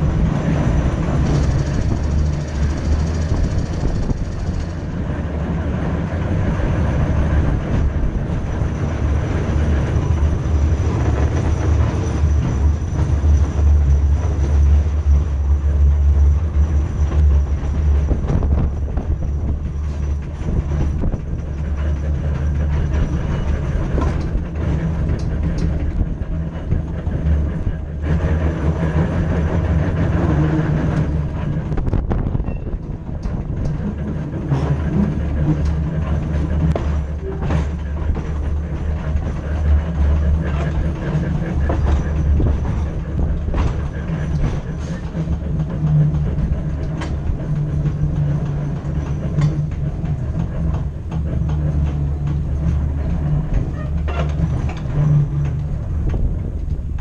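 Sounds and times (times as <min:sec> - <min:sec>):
electric tram rumbling and humming: 0:00.0 - 0:57.0
tram clicks and knocks: 0:00.0 - 0:57.0.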